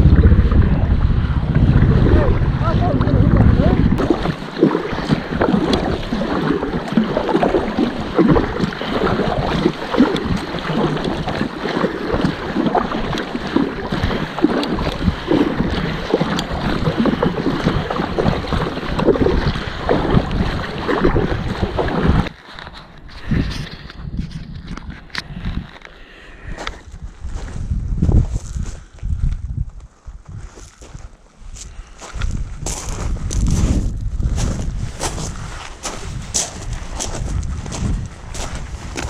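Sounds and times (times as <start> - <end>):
wind buffeting microphone: 0.0 - 22.4, 23.0 - 39.0
water splashing around kayak: 0.0 - 26.8, 32.2 - 39.0.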